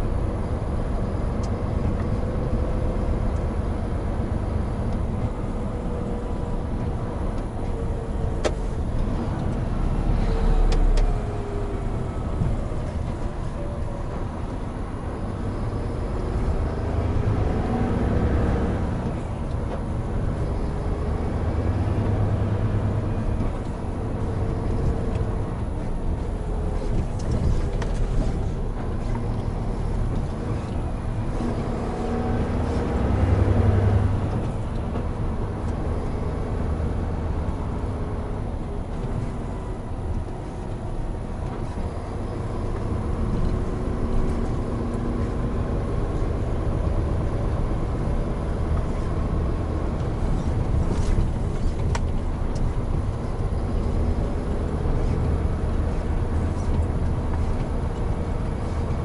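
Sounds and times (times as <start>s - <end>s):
diesel truck engine rumble: 0.0s - 59.0s
road and tyre noise: 0.0s - 59.0s.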